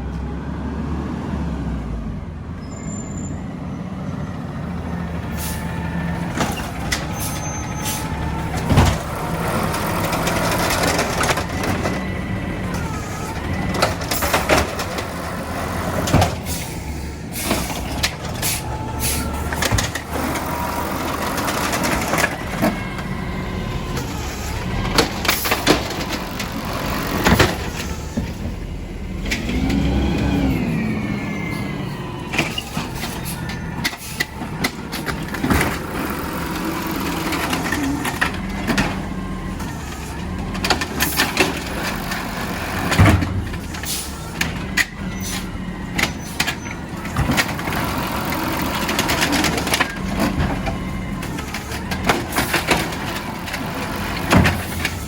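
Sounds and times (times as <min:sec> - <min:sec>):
garbage truck engine running: 0:00.0 - 0:55.0.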